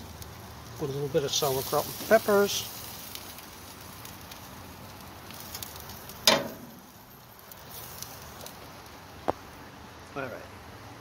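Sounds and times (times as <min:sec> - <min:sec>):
food sizzling in a skillet: 0:00.0 - 0:09.1.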